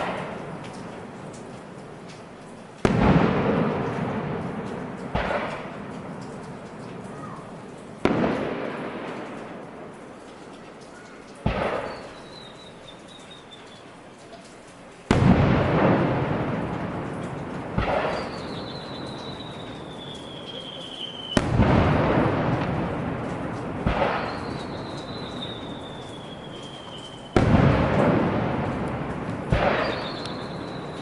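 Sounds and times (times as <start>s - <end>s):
fireworks booming: 0.0s - 31.0s
rumble after fireworks: 0.0s - 31.0s.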